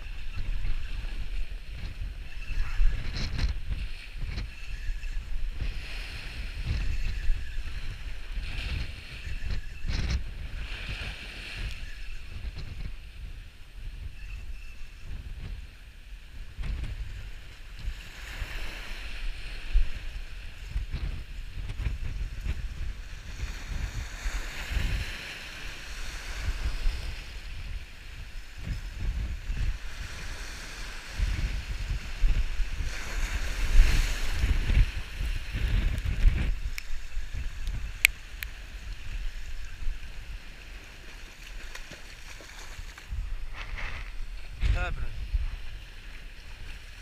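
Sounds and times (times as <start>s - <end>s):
surf washing against rocks: 0.0s - 13.1s, 16.4s - 47.0s
wind buffeting microphone: 0.0s - 47.0s.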